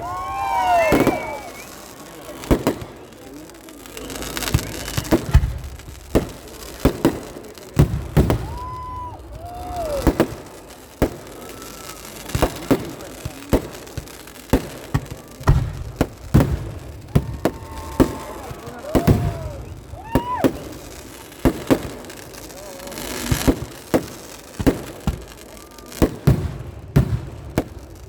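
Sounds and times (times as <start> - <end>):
fireworks bangs: 0.0 - 28.0
whistling fireworks: 0.0 - 28.0.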